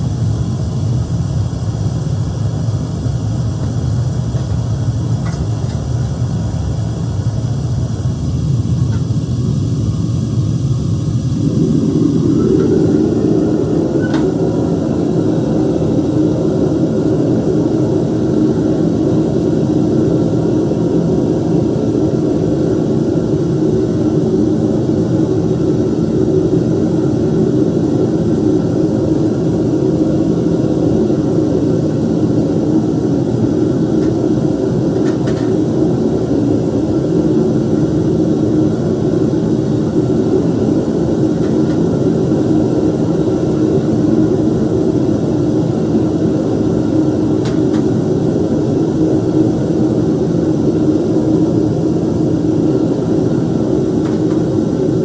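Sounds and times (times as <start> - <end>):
furnace burner rushing: 0.0 - 55.0.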